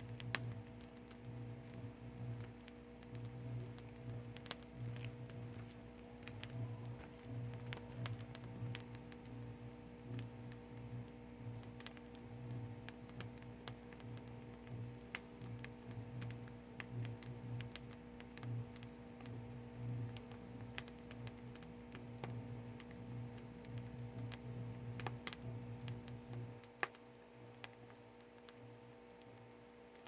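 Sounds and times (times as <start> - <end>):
low hum: 0.0 - 26.7
firewood crackling and popping: 0.0 - 30.0.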